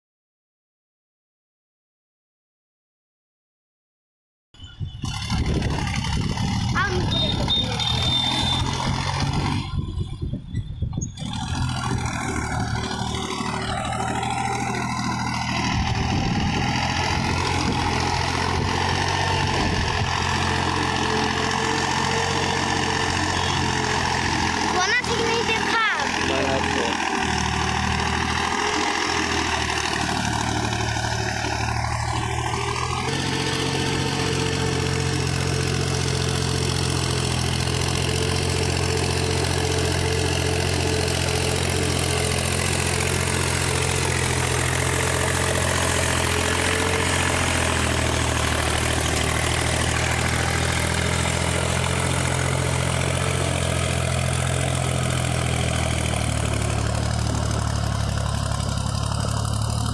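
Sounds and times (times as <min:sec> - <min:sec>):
tractor diesel engine running: 0:04.8 - 0:59.9.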